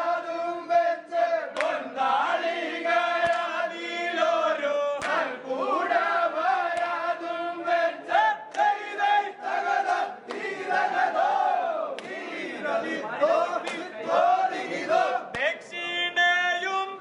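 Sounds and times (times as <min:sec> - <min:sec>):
men chanting in unison: 0:00.0 - 0:16.3.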